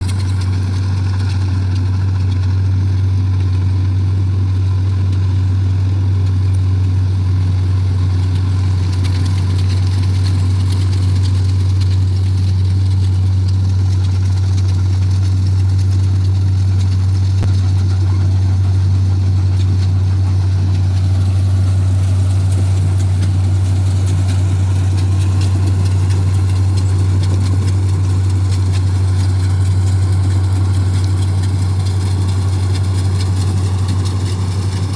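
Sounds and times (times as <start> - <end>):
combine harvester engine drone: 0.0 - 34.9.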